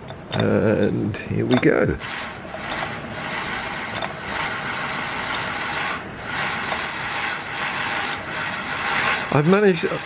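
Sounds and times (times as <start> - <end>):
lathe churning with high whine: 1.5 - 10.0.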